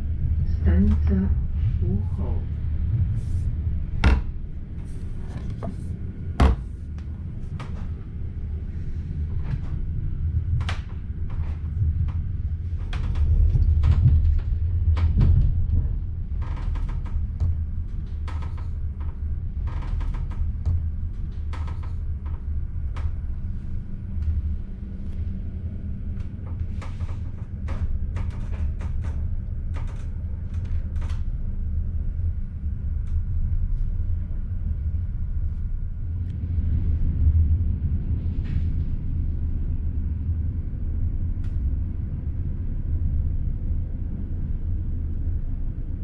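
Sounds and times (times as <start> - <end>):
train carriage running rumble: 0.0 - 46.0.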